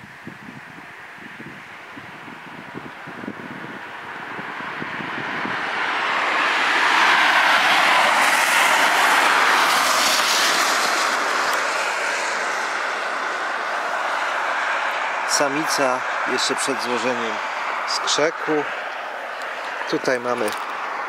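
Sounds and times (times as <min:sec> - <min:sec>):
car passing: 0:01.9 - 0:21.0.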